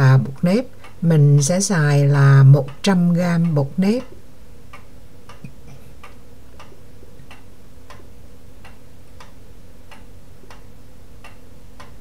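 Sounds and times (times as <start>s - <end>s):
regular ticking: 0.3s - 12.0s.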